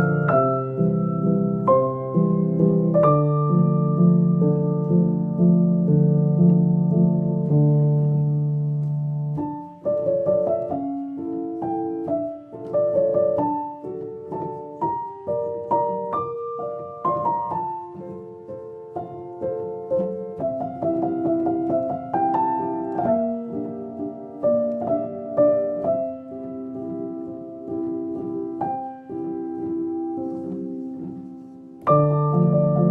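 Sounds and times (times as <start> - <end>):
background piano music: 0.0 - 32.9.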